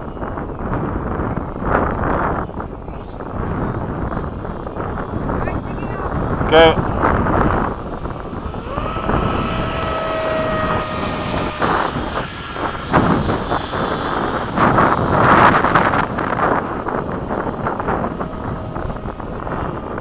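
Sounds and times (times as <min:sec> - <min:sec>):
wind buffeting microphone: 0:00.0 - 0:20.0
model airplane motor whining: 0:00.1 - 0:20.0.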